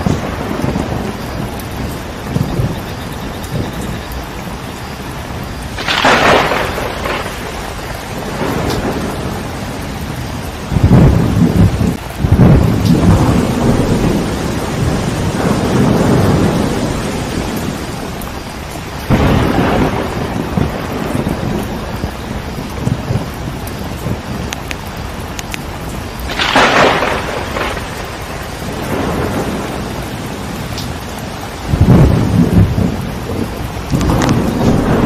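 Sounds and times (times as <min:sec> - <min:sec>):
heavy rain: 0:00.0 - 0:35.0
thunder cracking: 0:00.0 - 0:35.0
thunder rolling rumble: 0:00.0 - 0:35.0.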